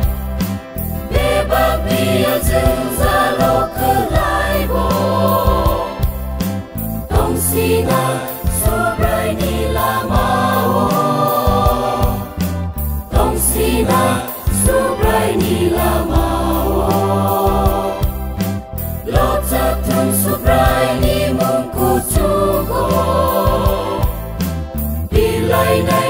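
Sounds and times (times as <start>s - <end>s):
band with drums and bass: 0.0s - 26.0s
mixed choir singing: 0.8s - 26.0s.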